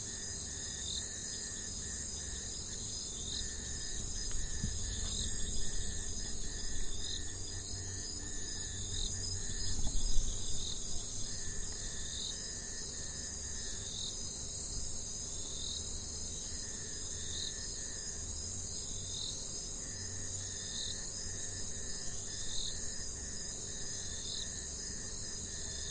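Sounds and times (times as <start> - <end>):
insects buzzing: 0.0 - 25.9.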